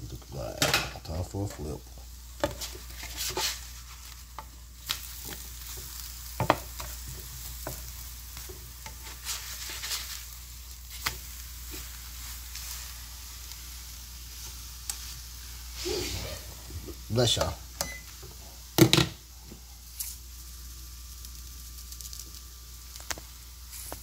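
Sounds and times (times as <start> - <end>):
tortillas sizzling on grill plate: 0.0 - 24.0.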